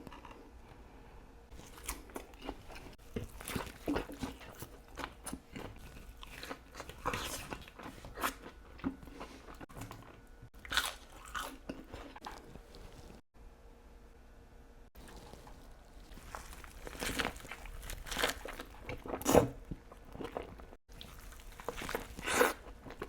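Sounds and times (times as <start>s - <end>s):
person chewing crunchy food: 0.0s - 0.6s, 1.5s - 13.2s, 15.0s - 23.0s.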